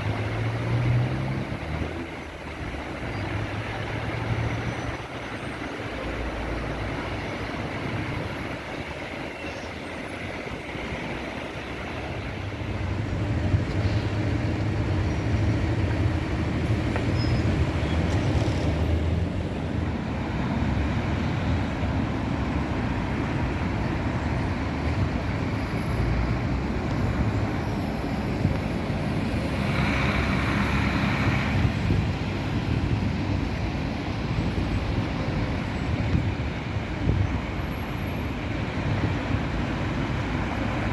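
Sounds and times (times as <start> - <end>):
cars and buses driving past: 0.0 - 40.9.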